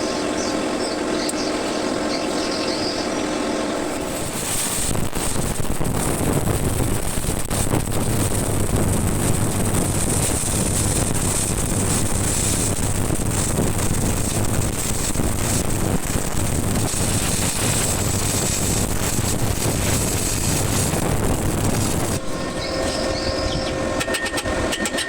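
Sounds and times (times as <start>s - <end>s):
low electrical hum: 0.0s - 25.0s
arc welding crackling: 0.1s - 25.0s.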